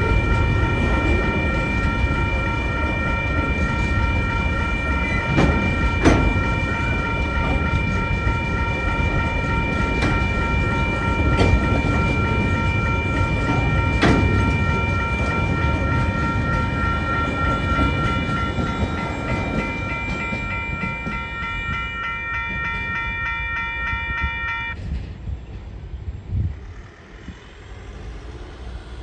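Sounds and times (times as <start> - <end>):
crossing warning bell ringing: 0.0 - 24.8
wheel clatter on rails: 0.0 - 25.2
freight train rumbling past: 0.0 - 29.0.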